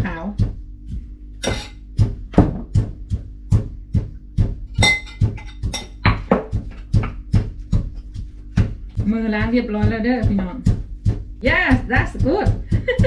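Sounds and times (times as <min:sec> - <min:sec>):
pestle pounding in stone mortar: 0:00.0 - 0:13.0.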